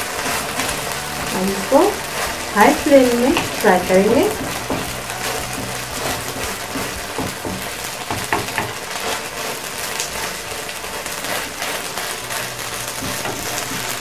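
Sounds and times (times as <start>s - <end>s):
food sizzling in oil: 0.0s - 14.0s
wooden spatula scraping pan: 0.0s - 14.0s.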